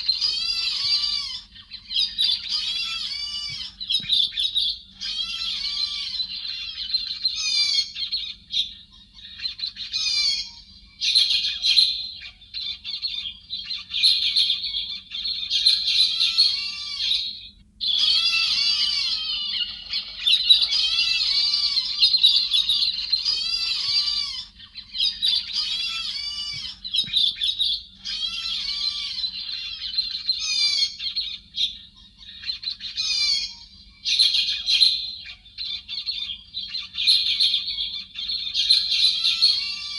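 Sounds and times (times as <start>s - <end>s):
birds chattering: 0.0s - 39.9s
faint low hum: 0.0s - 39.9s.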